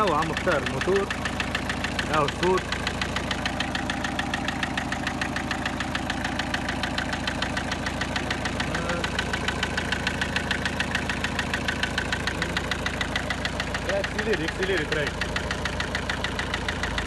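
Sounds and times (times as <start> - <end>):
car engine idling: 0.0 - 17.0
rhythmic engine ticking knock: 0.0 - 17.0.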